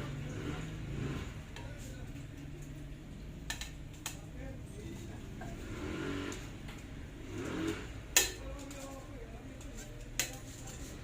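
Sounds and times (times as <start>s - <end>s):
faint background voices: 0.5s - 6.6s, 7.9s - 11.0s.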